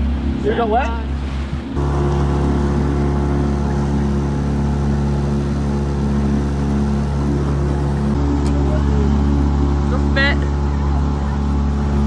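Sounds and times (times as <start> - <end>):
motorboat engine running: 0.0 - 12.0
water rushing in wake: 0.0 - 12.0.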